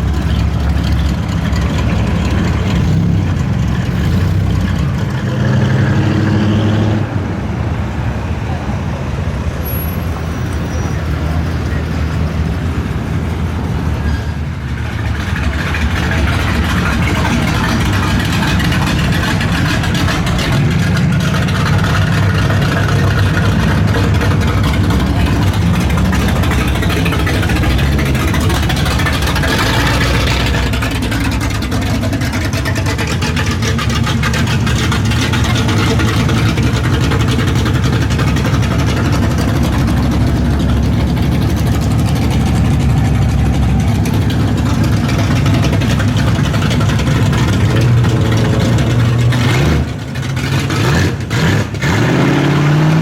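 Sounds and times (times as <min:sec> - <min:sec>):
car engines cruising slowly: 0:00.0 - 0:53.0.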